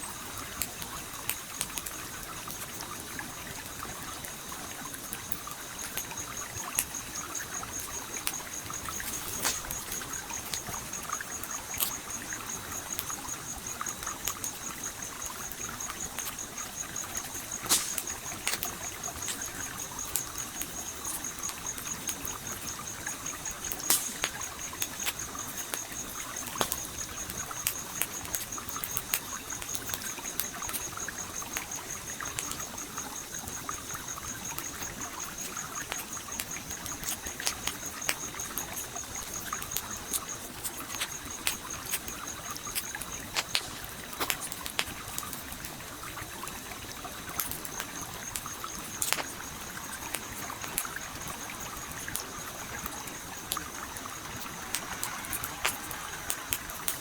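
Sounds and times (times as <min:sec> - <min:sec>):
campfire crackling and popping: 0:00.0 - 0:57.0
stream trickling: 0:00.0 - 0:57.0.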